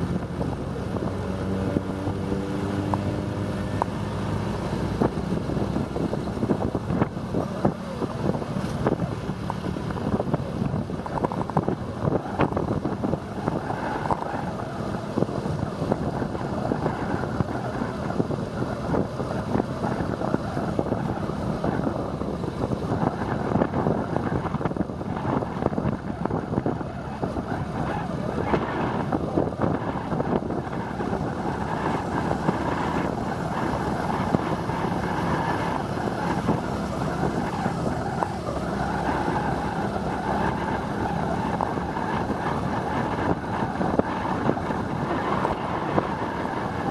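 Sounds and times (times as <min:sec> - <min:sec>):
motorbike engine and road rumble: 0:00.0 - 0:46.9
wind buffeting microphone: 0:00.0 - 0:46.9.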